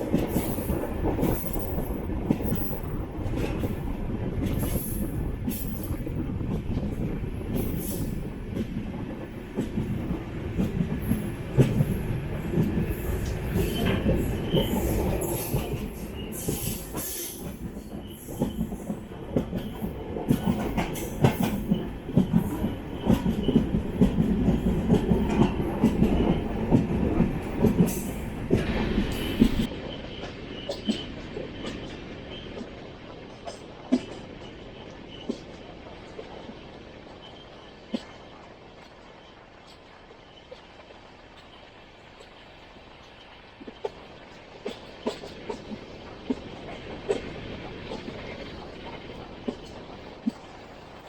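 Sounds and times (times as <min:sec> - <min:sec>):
train rumbling on track: 0:00.0 - 0:51.0.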